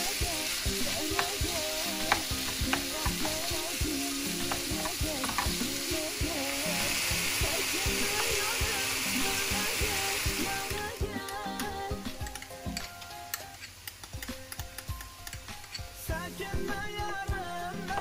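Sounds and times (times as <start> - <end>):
meat and onions sizzling: 0.0 - 18.0.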